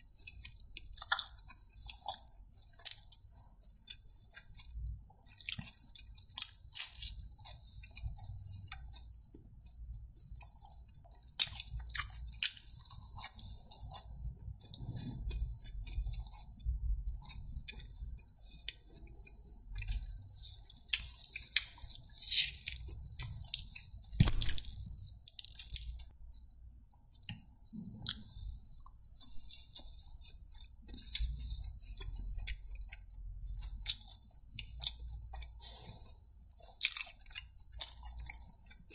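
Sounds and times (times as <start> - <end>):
crunchy chewing and biting: 0.0 - 26.2, 27.1 - 38.9.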